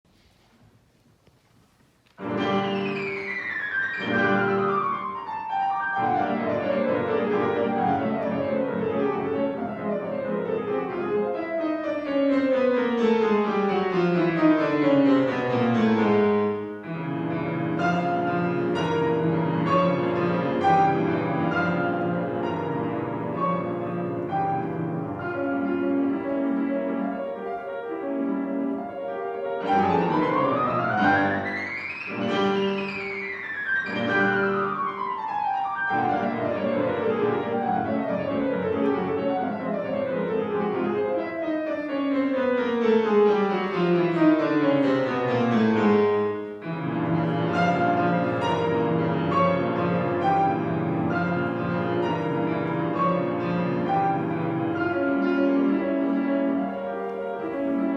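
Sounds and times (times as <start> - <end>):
piano music: 2.2 - 57.9.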